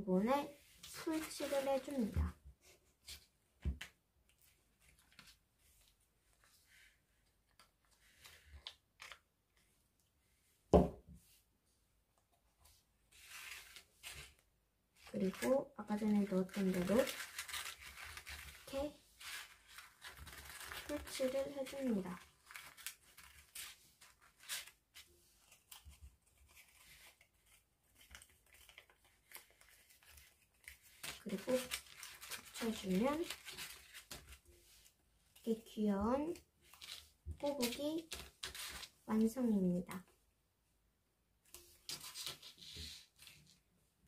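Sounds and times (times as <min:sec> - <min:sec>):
paper rustling: 0:00.5 - 0:02.2, 0:03.0 - 0:09.7, 0:12.6 - 0:35.7, 0:36.6 - 0:39.0, 0:41.5 - 0:43.7.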